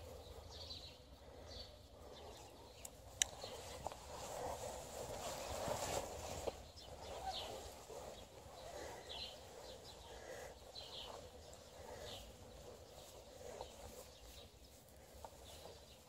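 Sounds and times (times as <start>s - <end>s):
footsteps through grass: 0.0s - 16.0s.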